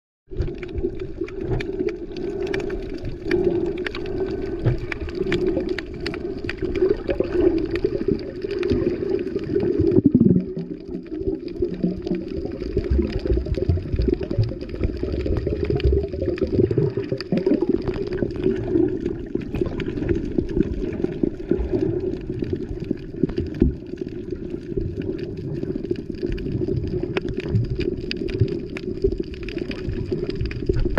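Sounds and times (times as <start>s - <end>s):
muffled underwater water rush: 0.3s - 30.9s
small clicks and crackles: 0.3s - 30.9s.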